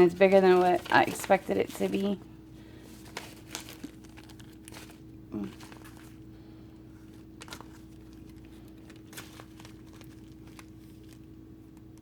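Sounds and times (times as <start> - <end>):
packaging handling clicks and rustles: 0.0 - 2.2, 2.8 - 12.0
steady low hum: 0.0 - 12.0.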